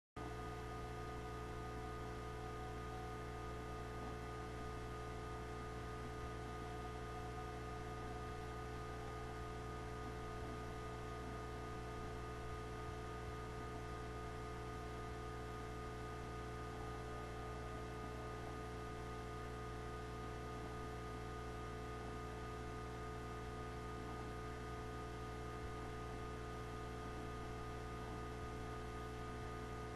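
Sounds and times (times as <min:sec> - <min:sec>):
electrical hum with hiss: 0:00.2 - 0:29.9.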